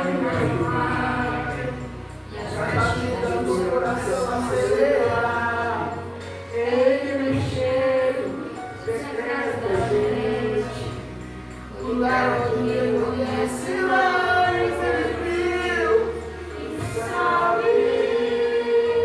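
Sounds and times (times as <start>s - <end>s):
group singing gospel song: 0.0s - 19.0s
low instrumental backing: 0.0s - 19.0s.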